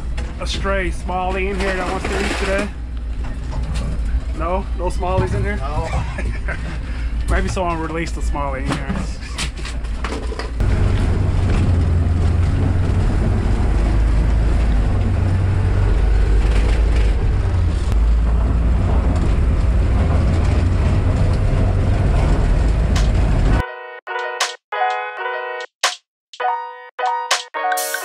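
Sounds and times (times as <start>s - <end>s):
vehicle engine and track rumble: 0.0s - 23.6s.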